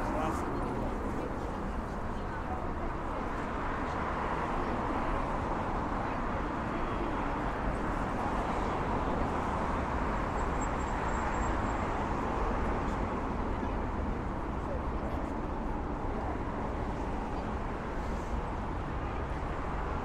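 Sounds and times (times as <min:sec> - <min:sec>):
city traffic: 0:00.0 - 0:20.0.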